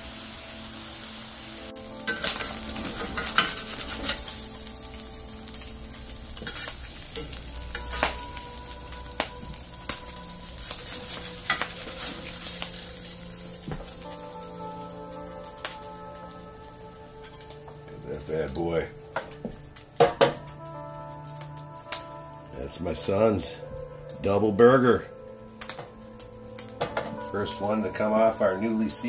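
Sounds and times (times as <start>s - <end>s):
burger patties sizzling: 0.0s - 29.0s.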